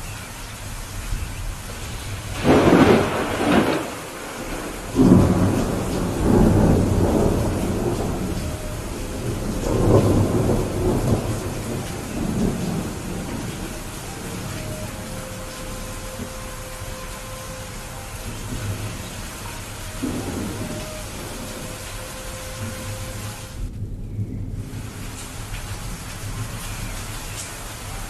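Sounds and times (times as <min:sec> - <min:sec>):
steady rain: 0:00.0 - 0:28.0
thunder crack and rumble: 0:00.9 - 0:27.9.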